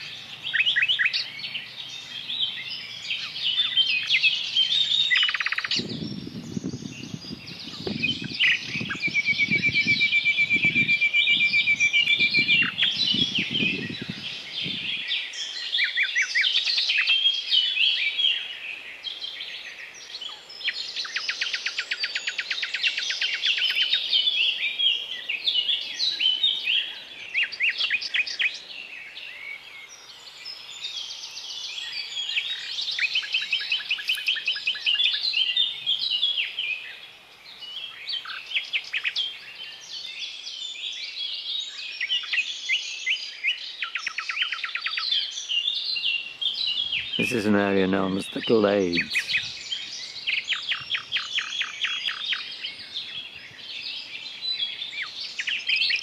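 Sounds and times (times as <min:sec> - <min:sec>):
songbirds singing and trilling: 0:00.0 - 0:56.0.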